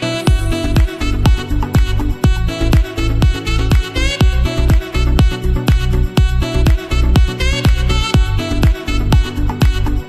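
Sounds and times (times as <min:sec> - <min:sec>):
electronic dance music: 0:00.0 - 0:10.0
kick drum beat: 0:00.3 - 0:10.0.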